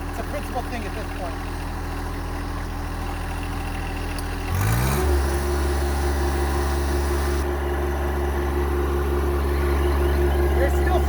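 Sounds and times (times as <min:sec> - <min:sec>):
tractor engine revving: 0:00.0 - 0:11.0.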